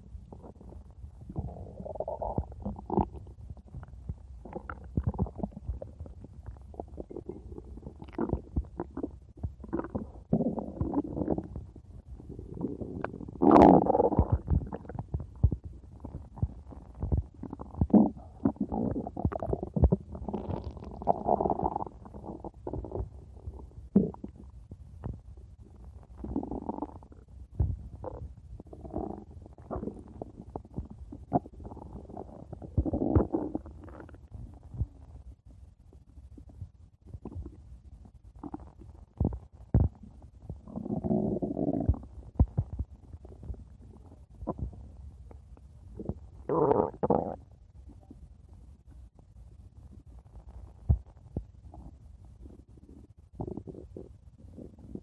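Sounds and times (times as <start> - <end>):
stomach growling and gurgling: 0.0 - 48.4, 49.8 - 55.0.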